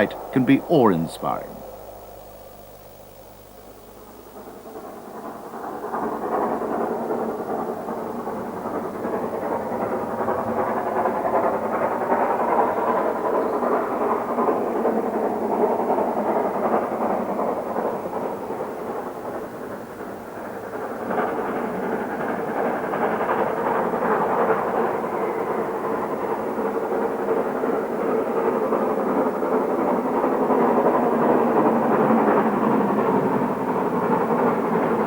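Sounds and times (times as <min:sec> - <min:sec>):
steam locomotive running: 0:00.0 - 0:01.6, 0:04.4 - 0:35.0.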